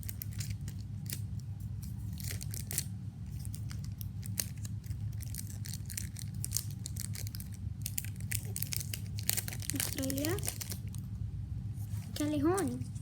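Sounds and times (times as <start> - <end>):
foil packet tearing and crinkling: 0.0 - 11.0.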